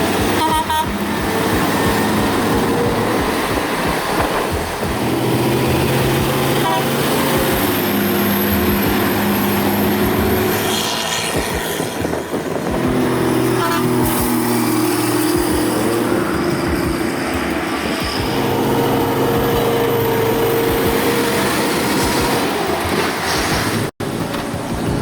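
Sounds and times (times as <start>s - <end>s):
large vehicle engine running: 0.0s - 25.0s.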